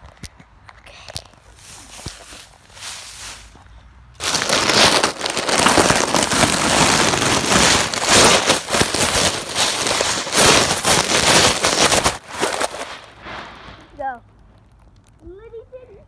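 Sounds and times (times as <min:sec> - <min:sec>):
dry leaves crackling and crunching: 0:01.4 - 0:03.6, 0:04.2 - 0:15.3.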